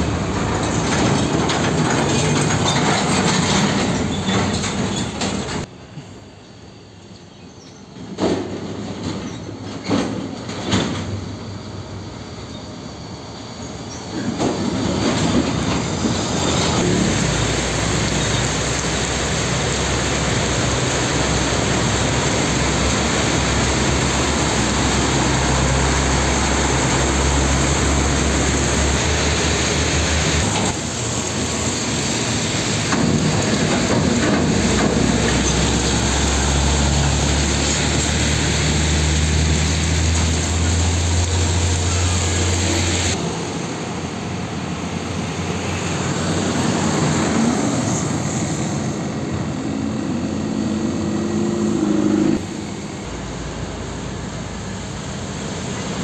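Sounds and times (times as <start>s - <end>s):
heavy rain: 0.0s - 5.7s, 14.6s - 56.0s
tyres on flooded road: 0.0s - 5.8s, 13.3s - 56.0s
diesel trucks driving past: 0.0s - 6.2s, 14.2s - 56.0s.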